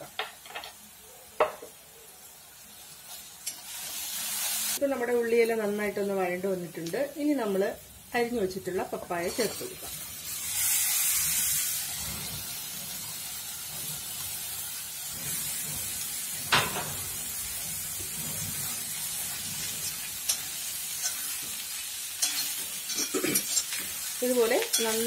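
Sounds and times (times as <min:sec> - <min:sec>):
food frying in hot oil: 0:01.7 - 0:25.0.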